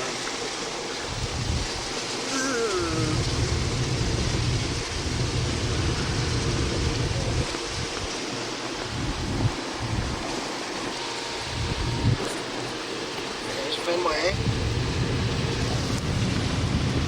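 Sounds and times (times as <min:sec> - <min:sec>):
road and engine rumble: 0:00.0 - 0:17.0
steady hiss: 0:00.0 - 0:17.0.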